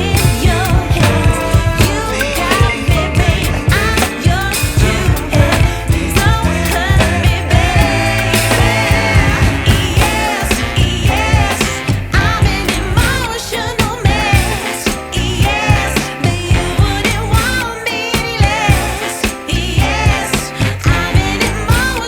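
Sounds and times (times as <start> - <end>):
pop song with vocals: 0.0 - 22.0.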